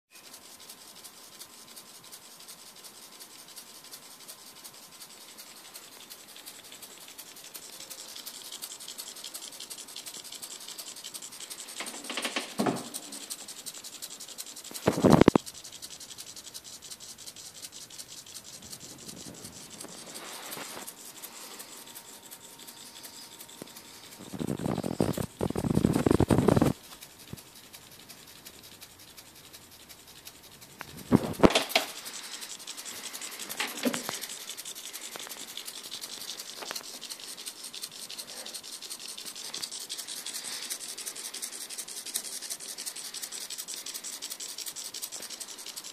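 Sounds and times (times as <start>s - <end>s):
servo motors ticking: 0.1s - 45.9s
short scraping bursts: 2.7s - 45.9s.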